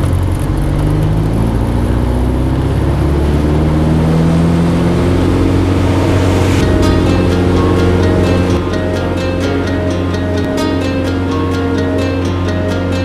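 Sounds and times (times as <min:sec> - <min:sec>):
propeller engine drone at full power: 0:00.0 - 0:13.0.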